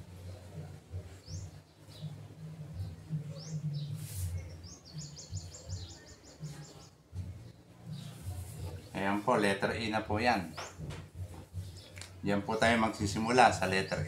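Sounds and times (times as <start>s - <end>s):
small birds chirping: 0.1s - 14.0s.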